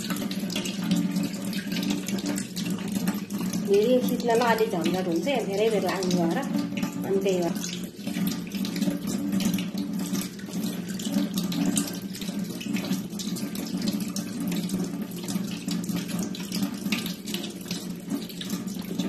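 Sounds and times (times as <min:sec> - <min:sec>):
tap water splashing over hands: 0:00.0 - 0:19.0.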